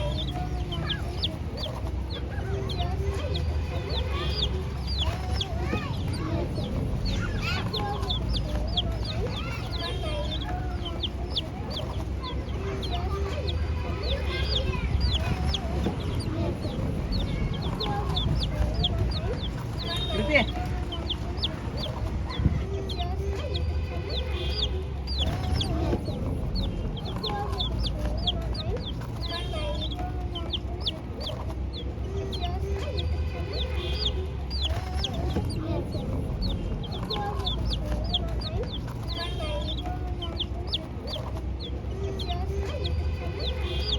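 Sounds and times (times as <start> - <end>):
steady low rumble: 0.0 - 23.4, 24.9 - 32.6, 34.3 - 43.2
chicks peeping: 0.0 - 43.9.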